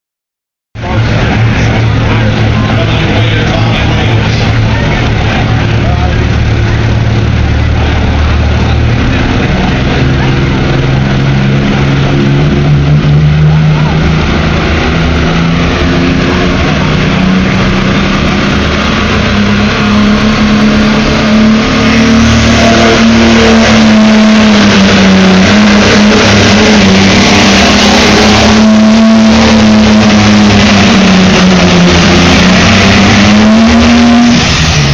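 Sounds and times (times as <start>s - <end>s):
tractor engine under load: 0.8s - 34.9s.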